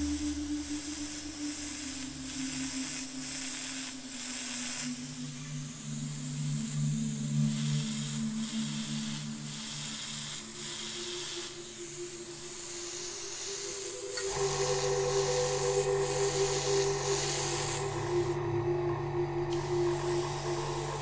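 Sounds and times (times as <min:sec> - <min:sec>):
airbrush spraying hiss: 0:00.0 - 0:21.0
quiet background music: 0:00.0 - 0:21.0.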